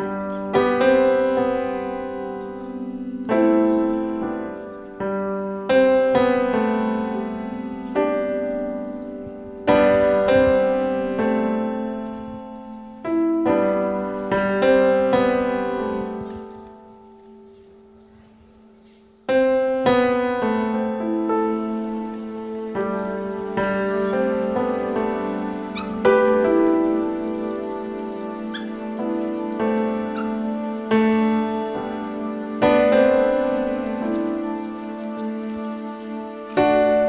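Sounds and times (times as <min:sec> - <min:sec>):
slow solo piano chords: 0:00.0 - 0:37.0.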